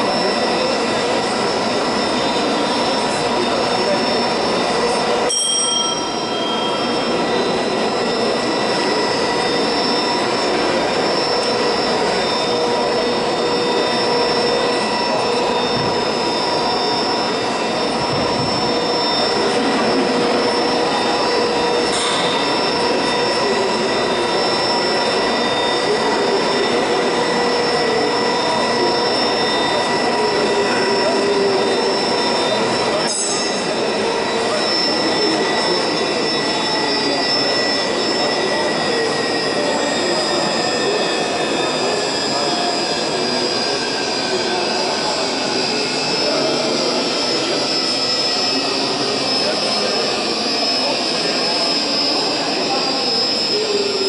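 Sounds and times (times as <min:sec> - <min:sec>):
high machinery whine: 0:00.0 - 0:54.0
winding engine mechanical drone: 0:00.0 - 0:54.0.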